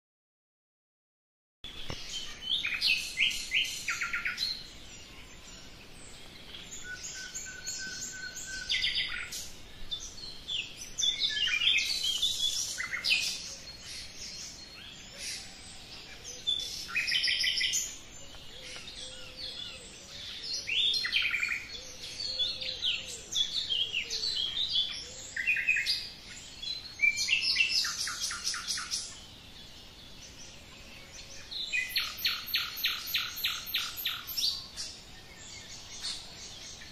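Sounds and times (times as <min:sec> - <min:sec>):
small birds singing: 0:01.6 - 0:36.9.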